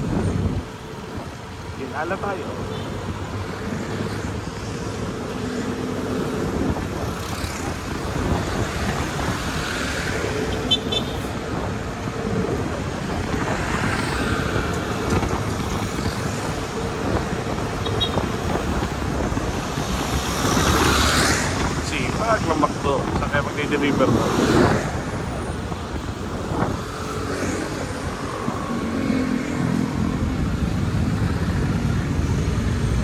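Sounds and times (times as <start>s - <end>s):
tyre and wind rush: 0.0s - 2.0s, 3.0s - 33.0s
vehicles passing: 0.0s - 33.0s.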